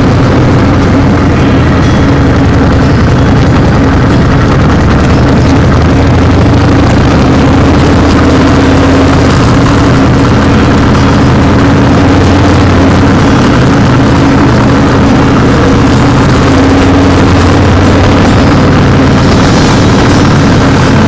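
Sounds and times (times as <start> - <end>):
vehicle engine growling: 0.0 - 21.0.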